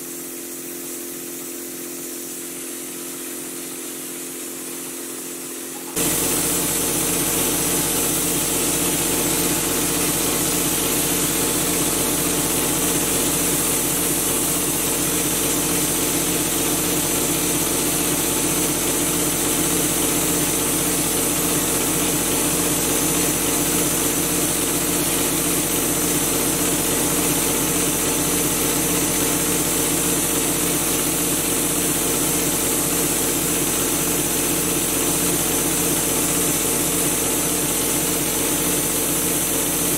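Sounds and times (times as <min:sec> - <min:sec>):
air compressor drone and hiss: 0:00.0 - 0:39.9.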